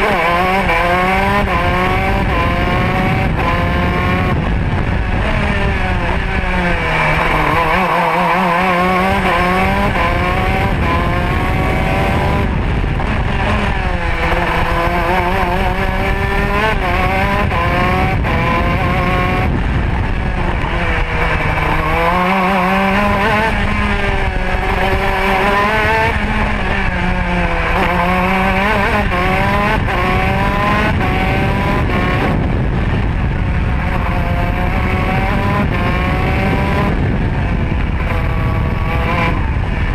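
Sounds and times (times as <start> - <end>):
kart engine at full throttle: 0.0 - 39.9
wind rush and rumble: 0.0 - 39.9.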